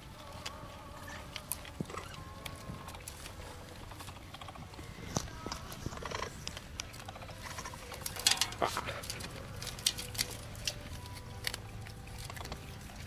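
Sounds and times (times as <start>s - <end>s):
animals crunching hay: 0.0s - 13.0s.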